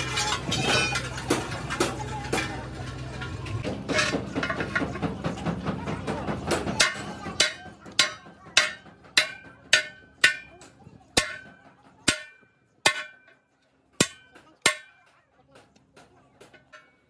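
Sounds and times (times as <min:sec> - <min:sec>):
sledgehammer clanging on steel: 0:00.0 - 0:17.0.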